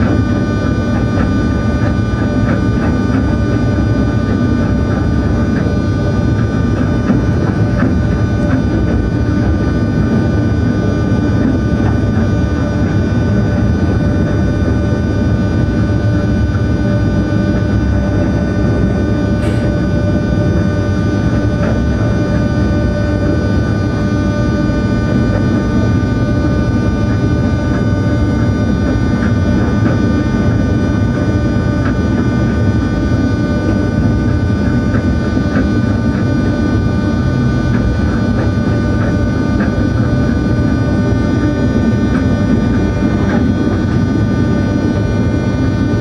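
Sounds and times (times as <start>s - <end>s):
electric drive whining: 0.0s - 46.0s.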